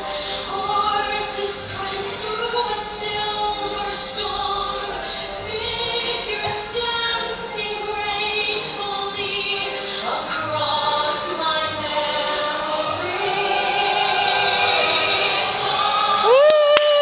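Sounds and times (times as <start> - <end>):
waltz music: 0.0 - 17.0.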